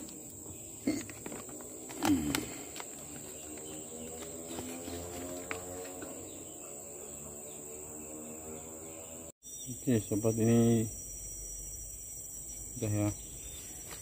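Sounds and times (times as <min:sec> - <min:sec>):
cricket trill: 0:00.0 - 0:14.0.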